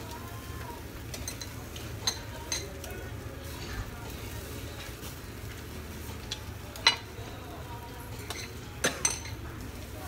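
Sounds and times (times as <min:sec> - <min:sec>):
utensils clinking against dishes: 0:01.0 - 0:10.0.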